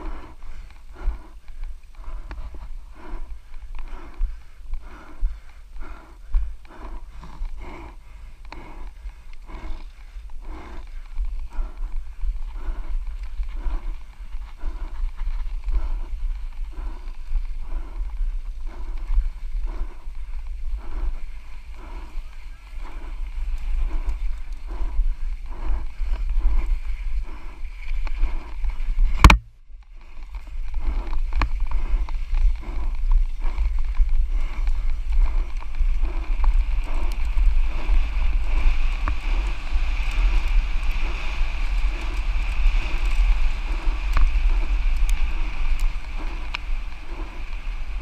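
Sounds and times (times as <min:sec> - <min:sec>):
bike tyres rolling over dirt: 0:00.0 - 0:48.0
wind rushing over microphone: 0:00.0 - 0:48.0.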